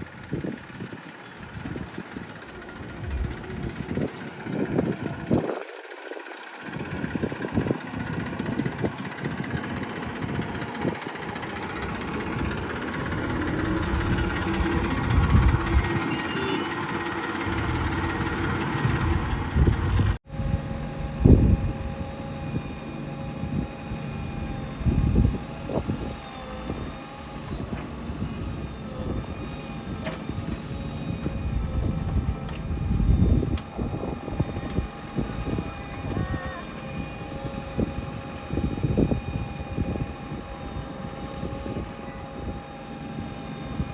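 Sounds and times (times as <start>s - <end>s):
diesel engine of heavy machinery: 0.0s - 43.9s.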